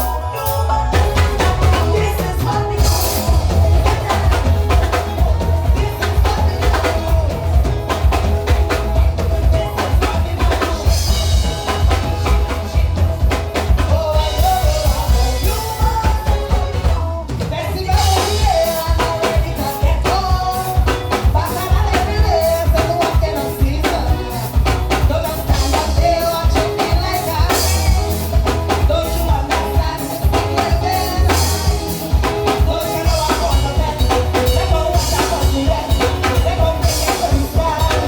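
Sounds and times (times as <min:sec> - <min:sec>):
soca music through sound system: 0:00.0 - 0:38.0.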